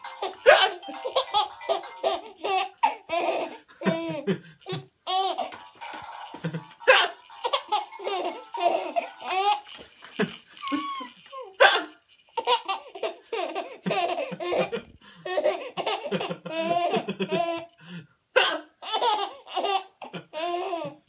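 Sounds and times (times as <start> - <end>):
baby laughing: 0.0 - 11.8, 12.4 - 17.7, 18.8 - 21.0.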